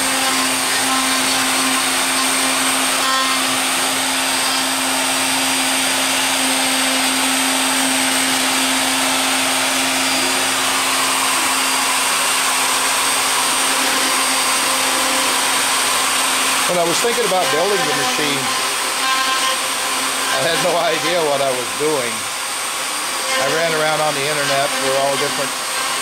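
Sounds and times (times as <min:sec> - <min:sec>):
router bit cutting wood: 0:00.0 - 0:26.0
router motor whining: 0:00.0 - 0:26.0.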